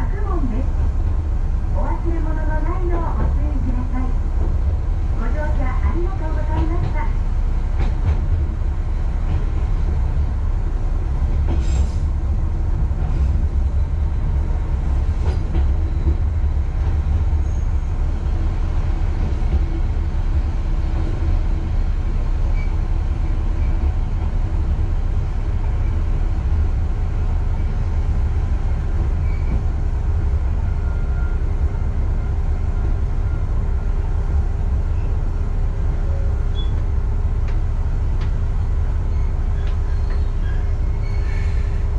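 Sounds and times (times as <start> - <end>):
diesel railcar engine rumble: 0.0 - 41.9.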